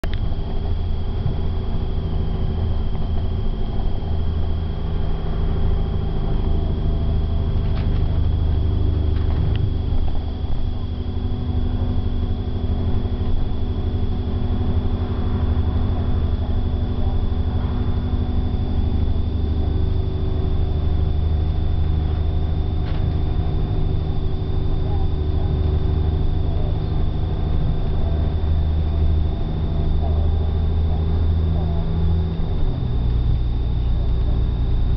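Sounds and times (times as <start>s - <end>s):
thin steady whine: 0.0s - 34.9s
vehicle engine and road drone: 0.0s - 34.9s.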